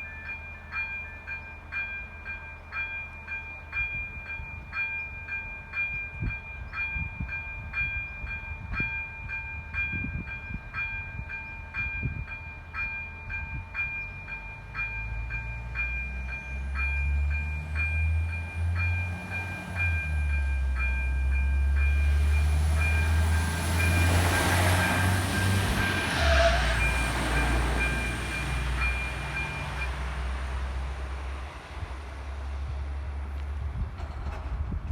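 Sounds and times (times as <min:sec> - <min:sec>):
level crossing warning bell: 0:00.0 - 0:30.3
train engine rumble: 0:00.0 - 0:34.9.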